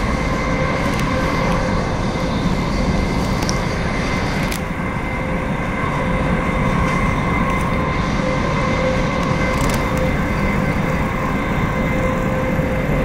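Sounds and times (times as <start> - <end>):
faint whining tones: 0.0 - 13.0
train wheels rumbling on rails: 0.0 - 13.0.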